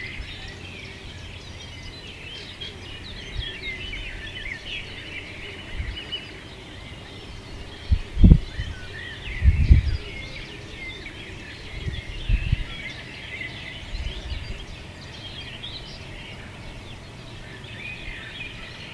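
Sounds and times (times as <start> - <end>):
small birds chirping and twittering: 0.0 - 18.9.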